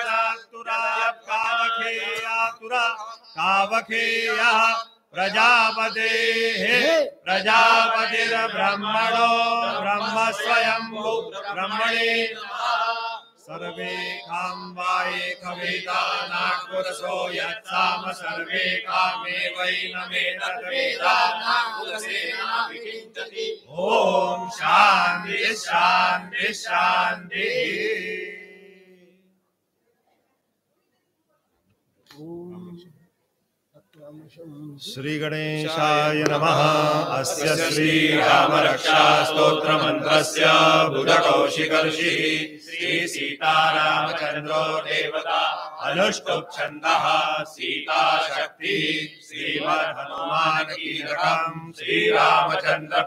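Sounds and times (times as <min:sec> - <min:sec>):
men chanting into microphones: 0:00.0 - 0:29.0, 0:34.6 - 0:53.0.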